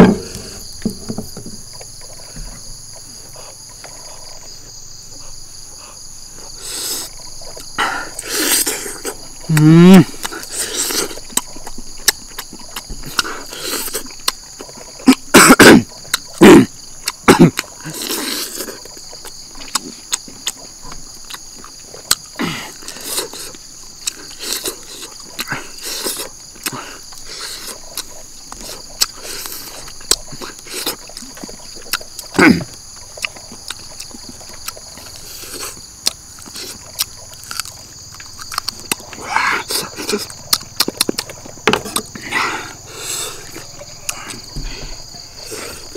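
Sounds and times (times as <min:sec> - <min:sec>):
throaty sounds: 0:00.0 - 0:04.5, 0:05.1 - 0:45.9
insects chirring: 0:00.0 - 0:45.9
chewing and lip-smacking: 0:01.7 - 0:45.9.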